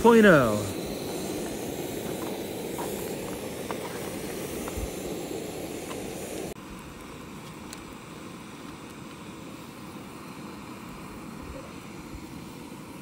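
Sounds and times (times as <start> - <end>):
gas stove burning with hiss: 0.0 - 13.0.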